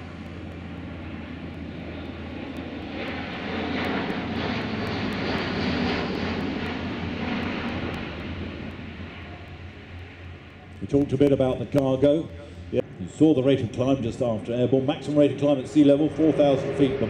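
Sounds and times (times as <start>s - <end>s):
turboprop aircraft passing overhead: 0.0s - 17.0s.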